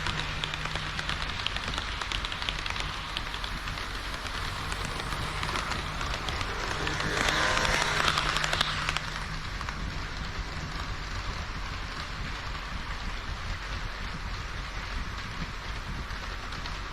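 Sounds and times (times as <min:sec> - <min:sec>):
low motor hum: 0:00.0 - 0:16.6
model train wheels clicking: 0:00.0 - 0:16.9.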